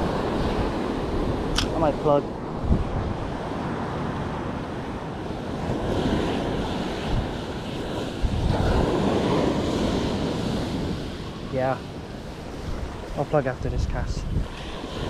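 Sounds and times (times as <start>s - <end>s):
ocean surf washing on shore: 0.0s - 15.0s
wind buffeting microphone: 0.0s - 15.0s.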